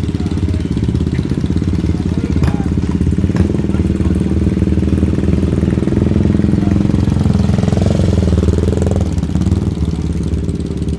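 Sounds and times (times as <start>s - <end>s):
motorcycle engine revving: 0.0s - 10.9s.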